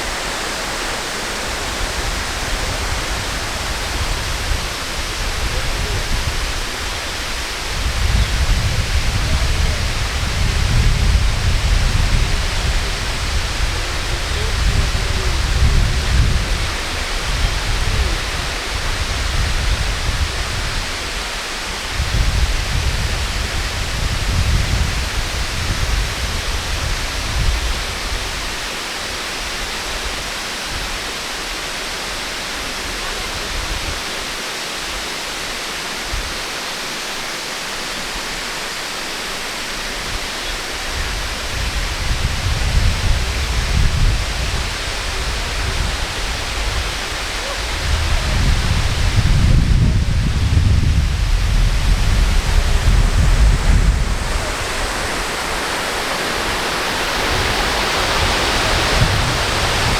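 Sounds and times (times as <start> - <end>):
wind buffeting microphone: 0.0 - 28.7, 39.9 - 59.9
waterfall rushing: 0.0 - 59.9.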